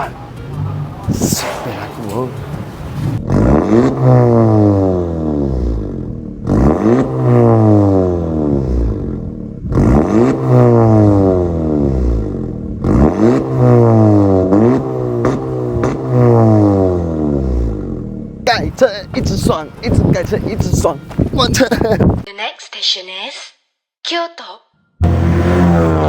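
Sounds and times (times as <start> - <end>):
car engine revving: 0.0 - 20.5, 25.0 - 26.0.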